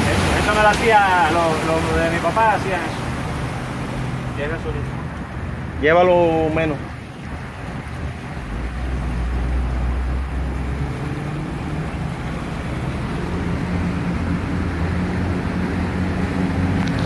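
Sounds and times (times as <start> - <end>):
boat engine running: 0.0 - 17.0
water rushing: 0.0 - 17.0
wind: 0.0 - 17.0.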